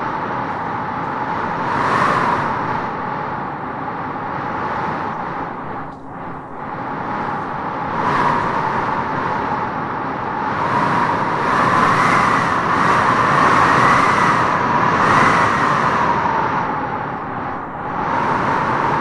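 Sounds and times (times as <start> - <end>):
wind whistling: 0.0 - 19.0.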